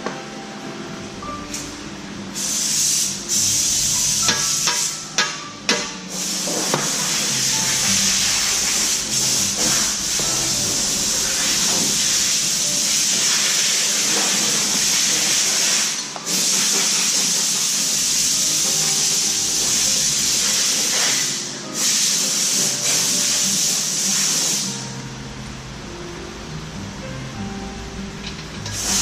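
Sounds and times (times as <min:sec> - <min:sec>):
loud steady hiss: 0:00.0 - 0:29.0.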